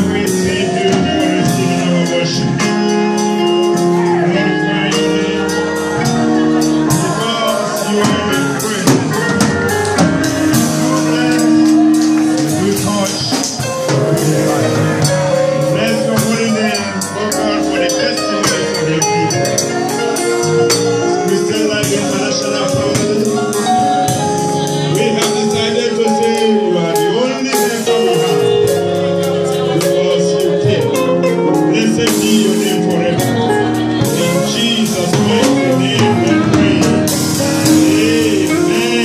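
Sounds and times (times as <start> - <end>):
drum kit with cymbals: 0.0 - 39.0
group of voices singing: 0.0 - 39.0.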